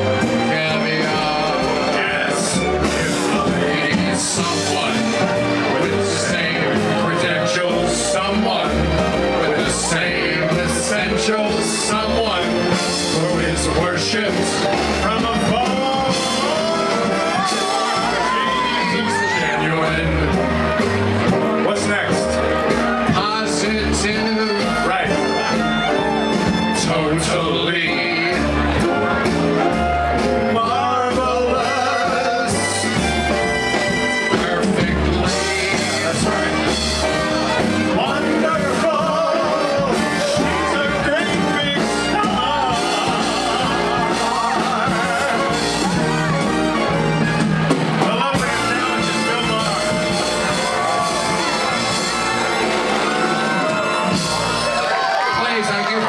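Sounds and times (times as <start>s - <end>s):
man singing: 0.0s - 46.9s, 48.0s - 52.2s
big band playing swing: 0.0s - 56.0s.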